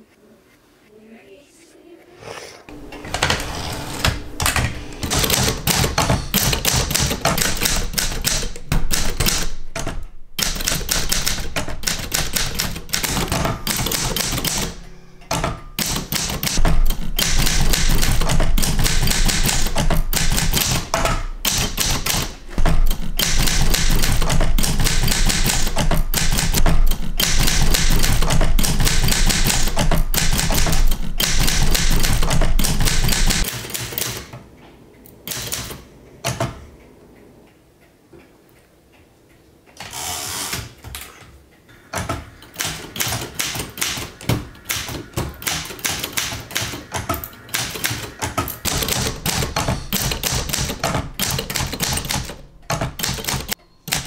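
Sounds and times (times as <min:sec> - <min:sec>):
manual typewriter clacking: 0:02.7 - 0:34.4, 0:35.2 - 0:36.6, 0:39.8 - 0:54.0.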